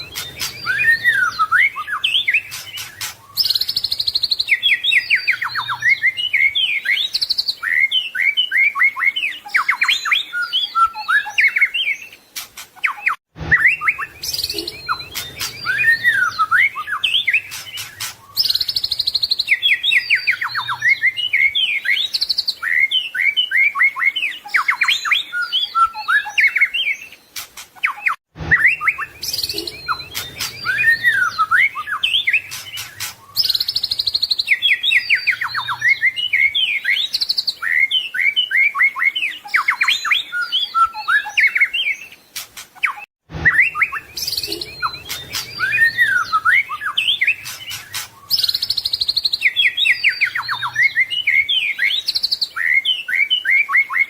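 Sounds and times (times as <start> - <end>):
bird singing whistled phrases and trills: 0.0 - 54.0.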